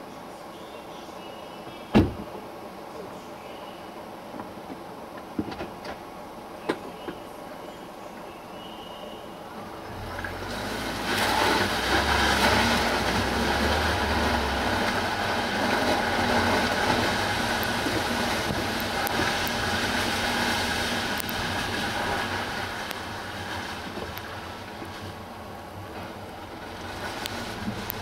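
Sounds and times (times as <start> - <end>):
road vehicle rumble: 4.0 - 28.0.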